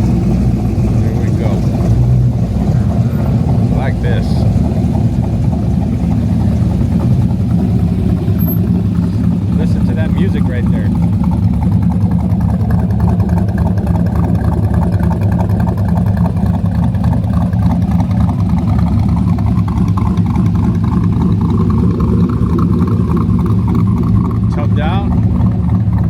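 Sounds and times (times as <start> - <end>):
car engine exhaust rumble: 0.0 - 26.0.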